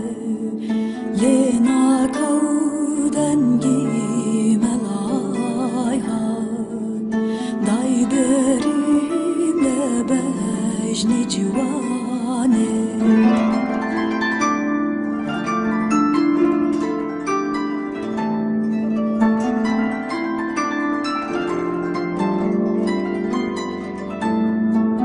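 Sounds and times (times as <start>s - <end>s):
harp plucked notes: 0.0s - 25.0s.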